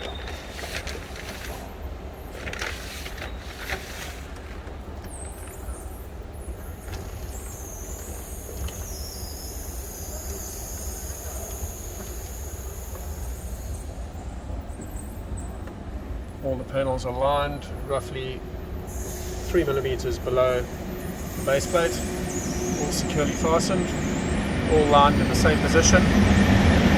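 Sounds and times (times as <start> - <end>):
low rumble of station noise: 0.0 - 26.9.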